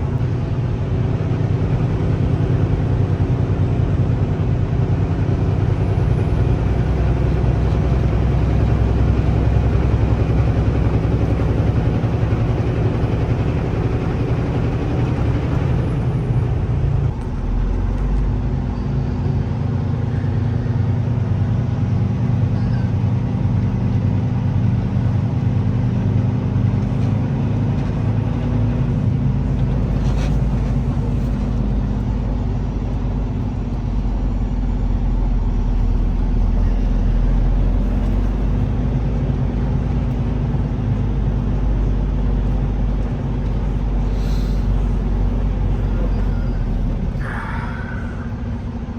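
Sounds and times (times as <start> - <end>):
diesel truck engine droning: 0.0 - 48.9
road and tyre noise: 0.0 - 48.9.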